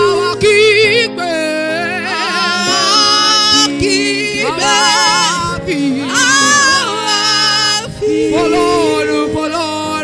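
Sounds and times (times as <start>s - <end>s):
person singing with vibrato: 0.0s - 10.0s
sustained musical accompaniment: 0.0s - 10.0s.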